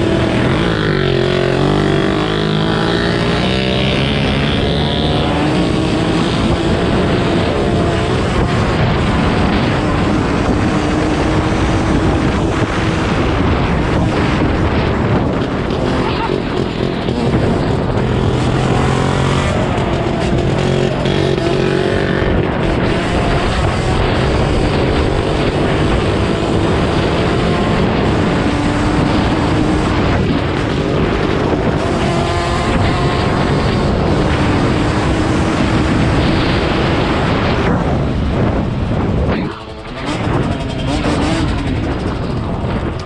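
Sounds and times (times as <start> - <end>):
small motorcycle engines: 0.0 - 43.0.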